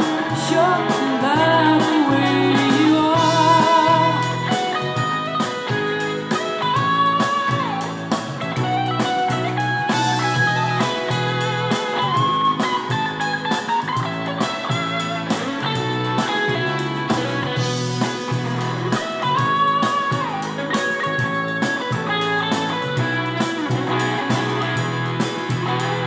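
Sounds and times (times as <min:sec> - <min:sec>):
electric guitar bending notes: 0:00.0 - 0:26.0
rock song over small speakers: 0:00.0 - 0:26.0.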